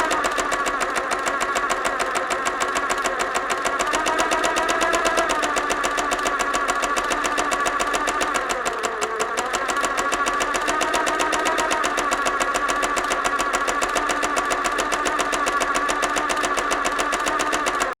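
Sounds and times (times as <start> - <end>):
sewing machine running: 0.0 - 18.0.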